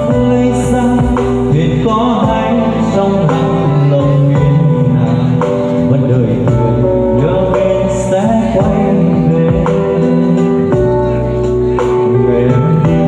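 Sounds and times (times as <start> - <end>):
backing music: 0.0 - 13.0
man singing into microphone: 0.0 - 13.0.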